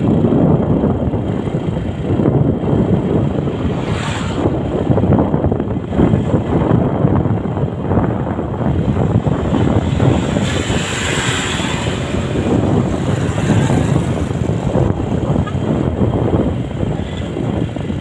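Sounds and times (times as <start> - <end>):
motorbike road and engine noise: 0.0 - 18.0
wind buffeting microphone: 0.0 - 18.0.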